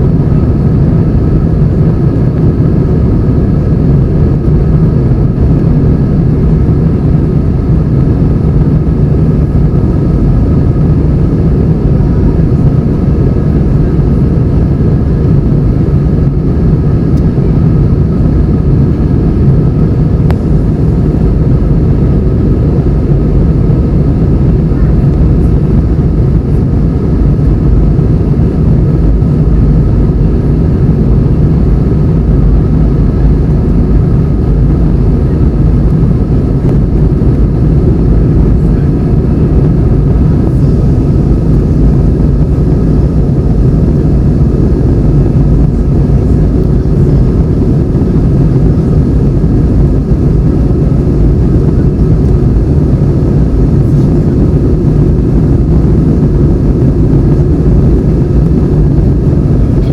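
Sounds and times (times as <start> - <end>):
faint high hum: 0.0 - 59.9
jet engine cabin rumble: 0.0 - 59.9.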